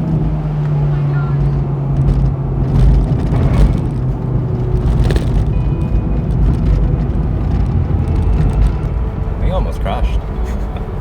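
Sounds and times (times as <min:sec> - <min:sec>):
car engine running: 0:00.0 - 0:11.0
road and tyre rumble: 0:00.0 - 0:11.0.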